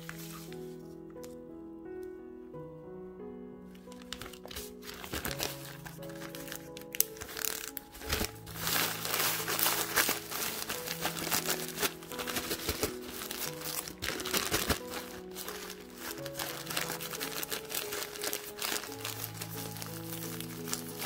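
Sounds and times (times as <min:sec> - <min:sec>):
background music: 0:00.0 - 0:21.0
crackers crunching: 0:03.9 - 0:21.0
plastic bag crinkling: 0:03.9 - 0:21.0.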